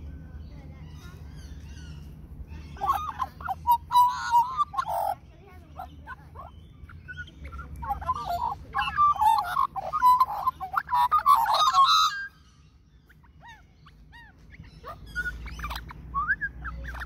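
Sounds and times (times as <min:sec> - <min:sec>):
magpie singing: 0:00.0 - 0:17.0.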